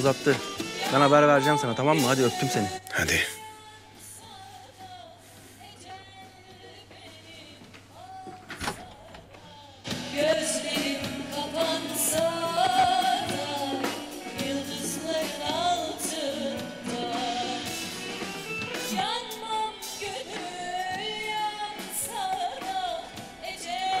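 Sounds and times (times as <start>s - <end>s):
music with woman singing: 0.0s - 24.0s.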